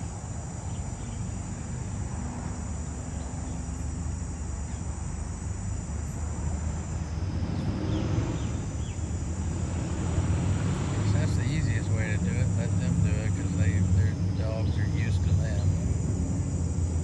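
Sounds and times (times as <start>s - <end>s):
high-pitched insect chirring: 0.0s - 10.4s, 11.0s - 17.0s
distant traffic rumble: 0.0s - 17.0s.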